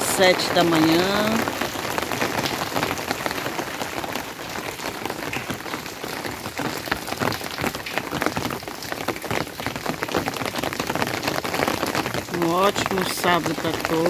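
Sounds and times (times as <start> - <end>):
steady rain patter: 0.0 - 14.0.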